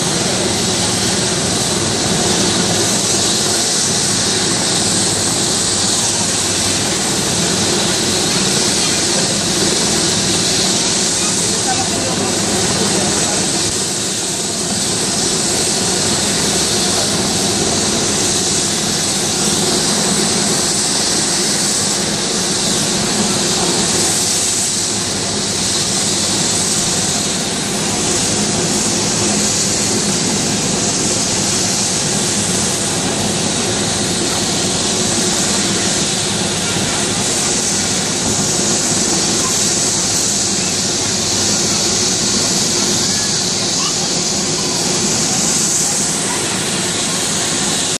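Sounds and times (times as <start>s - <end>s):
helicopter rotor drone: 0.0s - 47.9s
helicopter turbine whine: 0.0s - 47.9s.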